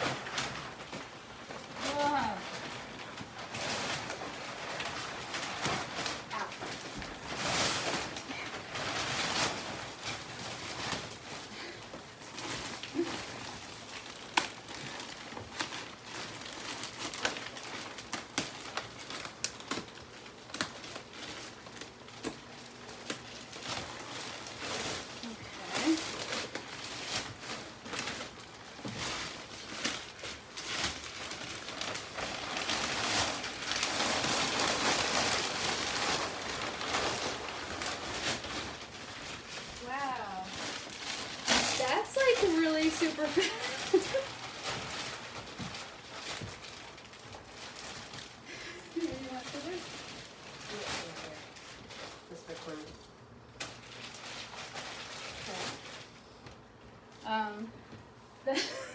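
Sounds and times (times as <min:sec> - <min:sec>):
plastic wrap crinkling: 0:00.0 - 0:58.9.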